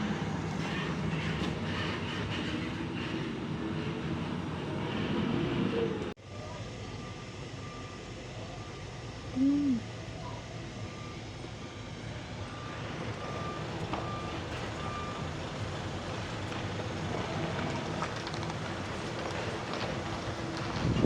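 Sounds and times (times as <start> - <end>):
truck reversing beeper: 0.0 - 21.0
vehicle engine running: 0.0 - 21.0.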